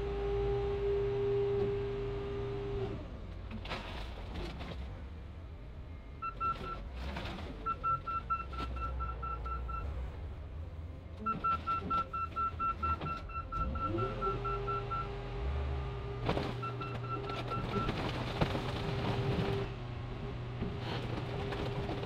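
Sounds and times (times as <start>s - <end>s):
loader engine rumbling: 1.6s - 22.0s.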